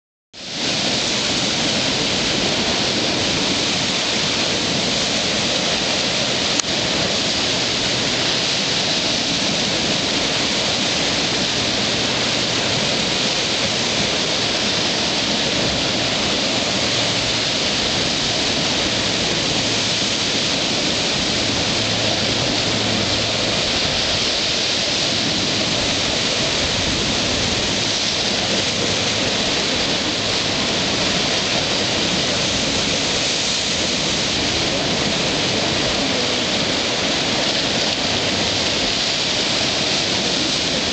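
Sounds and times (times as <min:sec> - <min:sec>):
surf breaking on rocks: 0:00.4 - 0:40.9.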